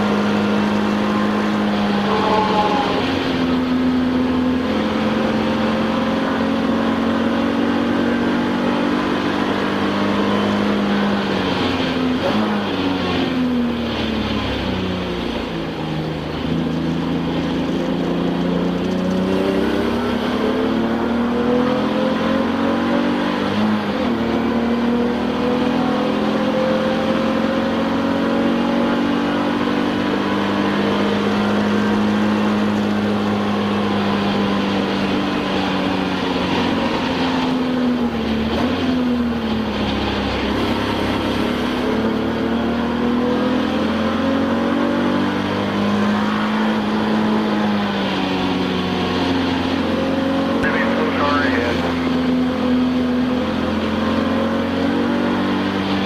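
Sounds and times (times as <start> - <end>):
race car engine shifting gears: 0.0 - 56.0.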